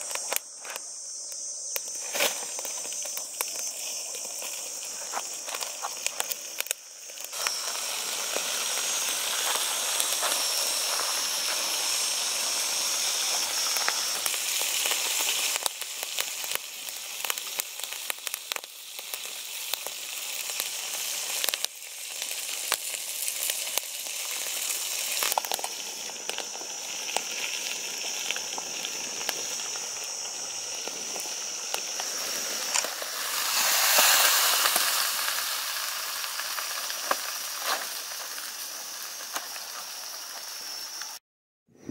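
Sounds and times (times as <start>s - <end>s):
sizzle and hiss of cooking: 0.0s - 41.2s
wood fire crackling and popping: 0.0s - 41.2s.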